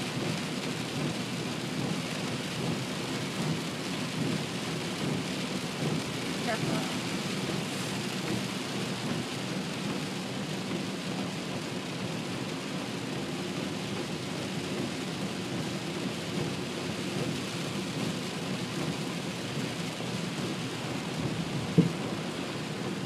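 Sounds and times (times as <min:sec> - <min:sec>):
heavy rain on a car roof: 0:00.0 - 0:23.0.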